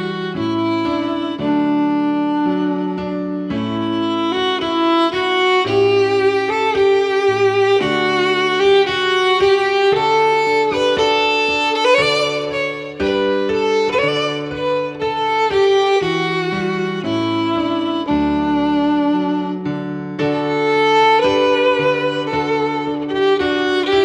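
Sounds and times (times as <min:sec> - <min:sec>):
violin slow melody: 0:00.0 - 0:24.0.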